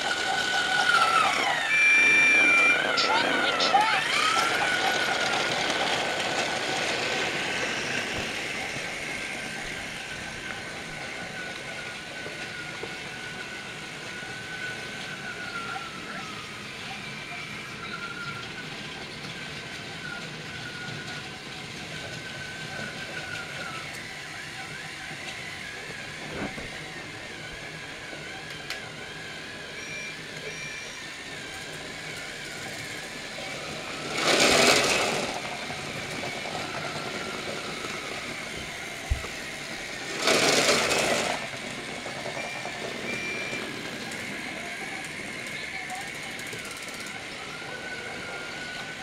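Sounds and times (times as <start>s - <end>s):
toy train motor whining: 0.0s - 49.0s.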